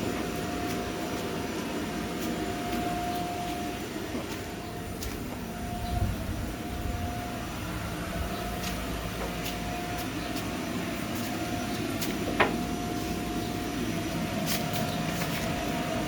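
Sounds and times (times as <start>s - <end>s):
ventilation fans running: 0.0s - 16.0s.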